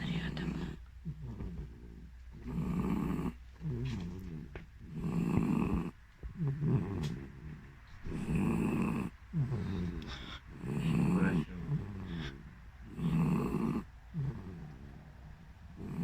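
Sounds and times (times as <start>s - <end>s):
animals snoring: 0.0s - 16.0s
soft breathing: 0.0s - 16.0s.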